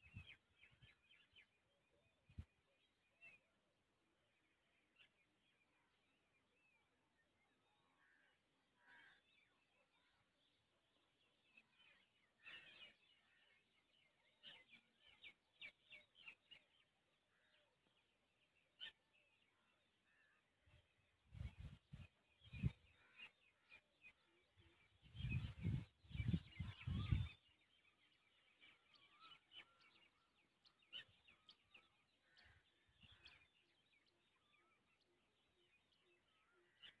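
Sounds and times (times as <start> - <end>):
distant birds chirping: 0.0 - 37.0.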